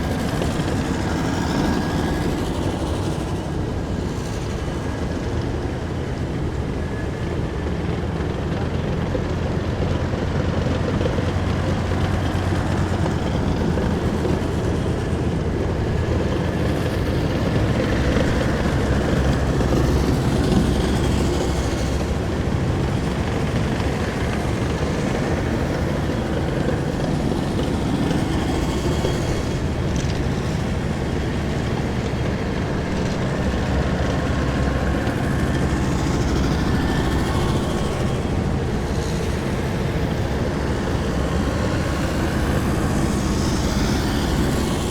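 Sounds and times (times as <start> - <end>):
heavy vehicle engines rumbling: 0.0 - 44.9.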